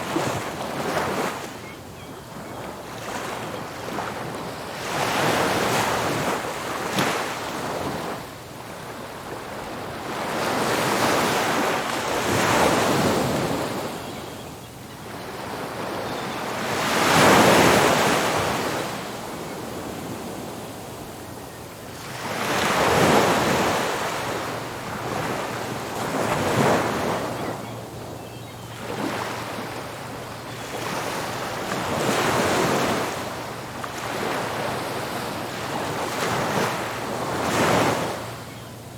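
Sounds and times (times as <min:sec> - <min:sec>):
waves breaking on beach: 0:00.0 - 0:01.7, 0:02.3 - 0:14.2, 0:15.1 - 0:21.2, 0:22.0 - 0:27.8, 0:28.7 - 0:38.6.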